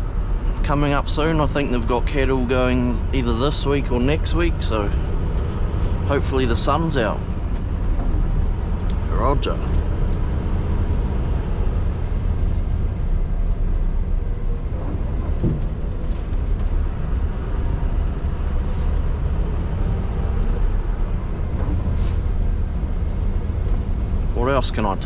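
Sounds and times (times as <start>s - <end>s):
diesel truck engine drone: 0.0s - 25.0s.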